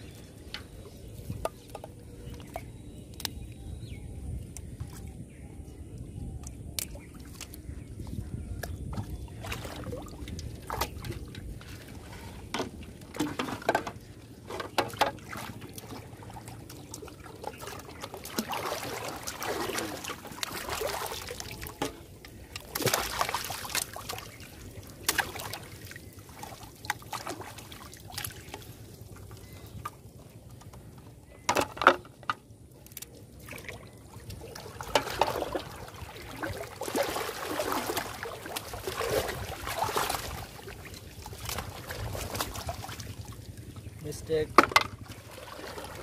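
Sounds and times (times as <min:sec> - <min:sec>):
pond water sloshing and splashing: 0:00.0 - 0:46.0.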